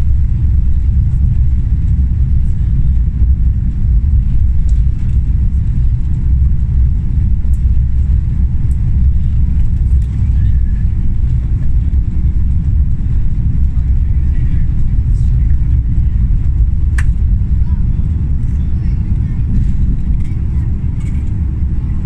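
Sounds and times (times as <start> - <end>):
jet engines at take-off thrust: 0.0 - 22.0.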